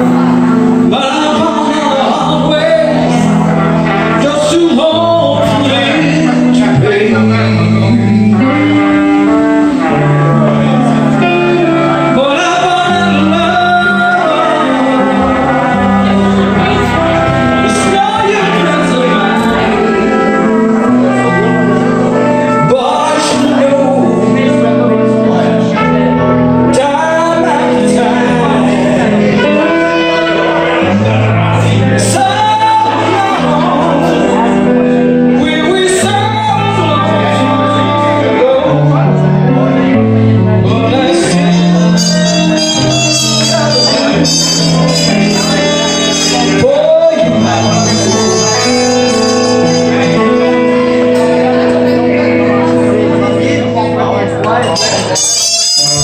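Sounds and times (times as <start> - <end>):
trumpet: 0.0 - 33.5, 41.1 - 53.4, 54.6 - 56.0
electric guitars: 0.0 - 56.0
live blues band playing: 0.0 - 56.0
man singing: 0.0 - 56.0.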